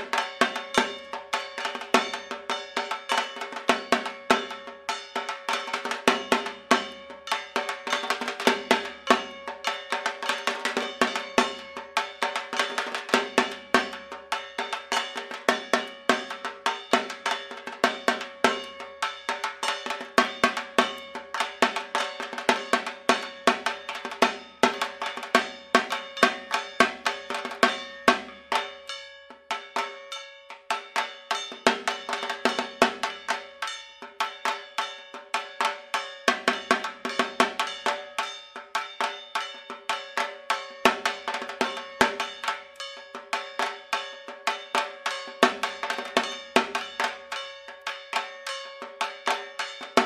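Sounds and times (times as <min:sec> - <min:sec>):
drums beaten with sticks: 0:00.0 - 0:50.0.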